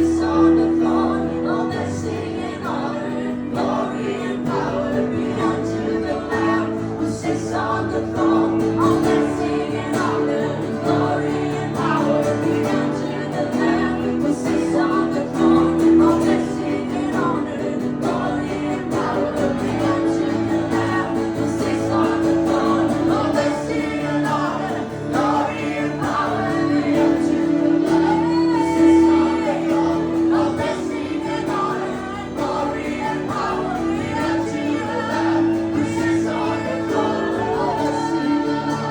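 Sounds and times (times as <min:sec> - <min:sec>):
sustained accompaniment chords: 0:00.0 - 0:38.9
voices singing worship song: 0:00.0 - 0:38.9.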